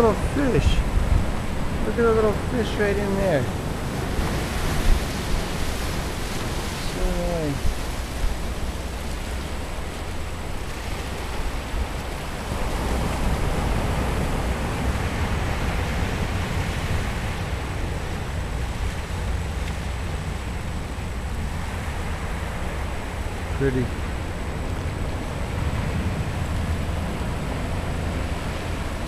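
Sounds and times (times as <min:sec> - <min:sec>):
ocean surf washing over rocks: 0:00.0 - 0:29.0
wind rumbling on microphone: 0:00.0 - 0:29.0.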